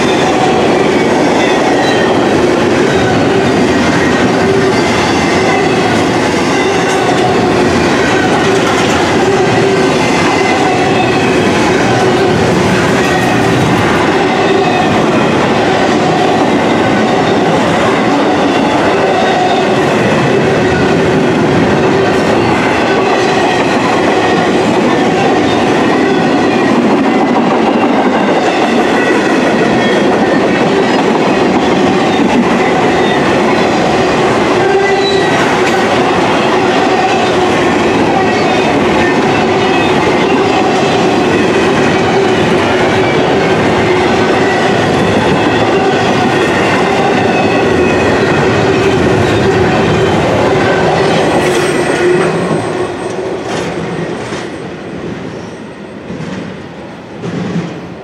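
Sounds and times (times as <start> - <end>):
train wheels clattering on rail: 0.0 - 58.0.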